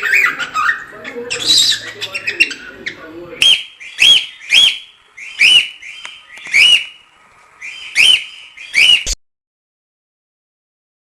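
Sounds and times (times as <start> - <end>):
bird calling: 0.0 - 9.2.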